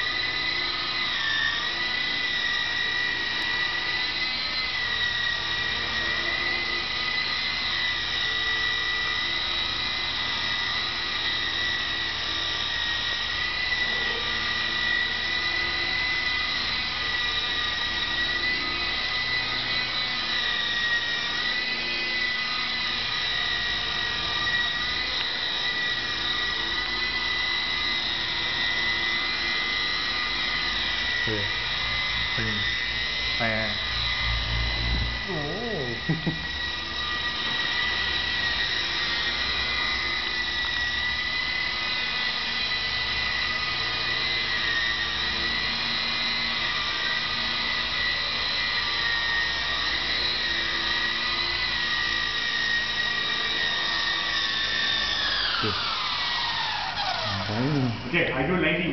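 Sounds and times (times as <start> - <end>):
rc helicopter rotor whine: 0.0 - 58.9.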